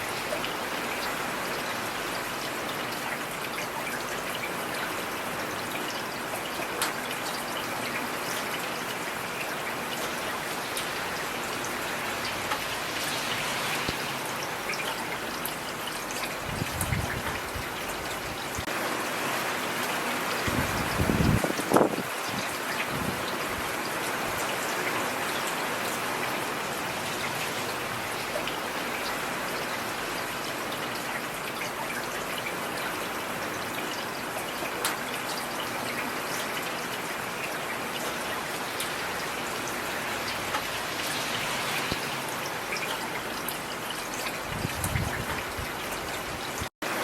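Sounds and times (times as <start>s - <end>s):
rain falling on a street: 0.0s - 47.0s.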